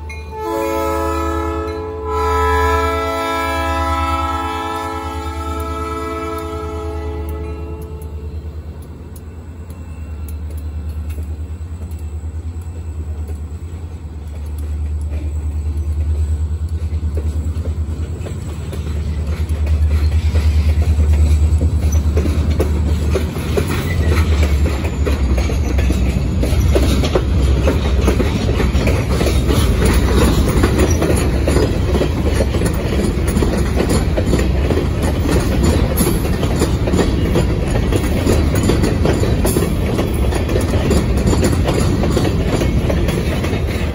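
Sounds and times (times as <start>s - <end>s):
diesel locomotive engine rumble: 0.0s - 43.9s
wheels clacking over rail joints: 0.0s - 43.9s.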